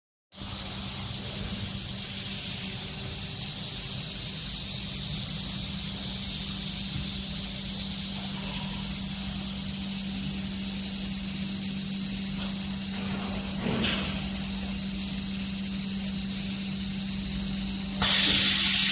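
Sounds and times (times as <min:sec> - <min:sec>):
machinery humming with high hiss: 0:00.4 - 0:18.9.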